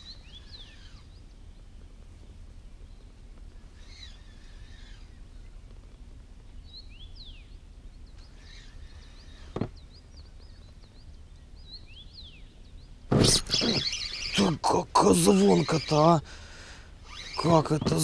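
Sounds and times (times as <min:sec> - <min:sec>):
low background rumble: 0:00.0 - 0:15.4
small birds chirping: 0:00.0 - 0:18.0.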